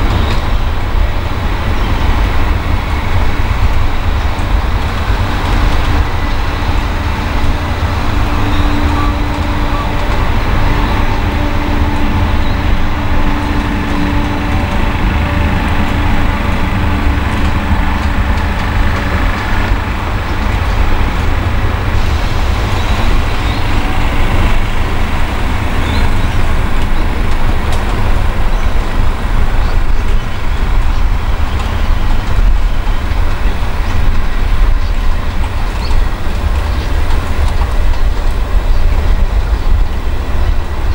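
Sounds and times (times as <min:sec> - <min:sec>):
train carriages rumbling on rails: 0:00.0 - 0:40.9.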